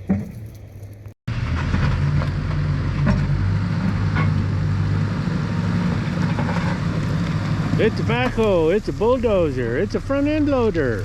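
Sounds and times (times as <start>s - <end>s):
diesel engine running: 1.3s - 11.0s.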